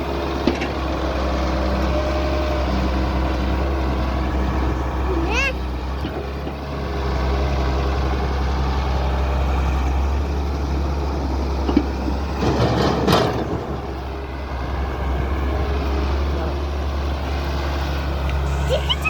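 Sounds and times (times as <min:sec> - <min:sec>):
diesel machinery engine drone: 0:00.0 - 0:19.0.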